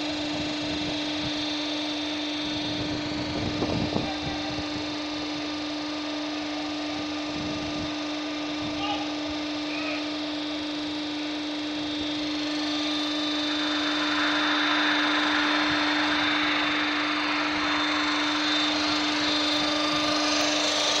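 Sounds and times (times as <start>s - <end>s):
broad noisy rush: 0.0s - 21.0s
machinery hum: 0.0s - 21.0s.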